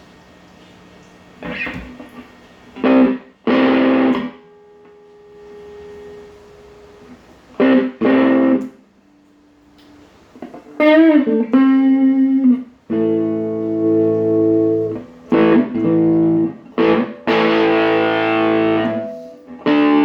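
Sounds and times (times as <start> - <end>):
electric guitar chords: 1.4 - 20.0
ringing guitar notes: 2.8 - 9.3, 10.5 - 20.0.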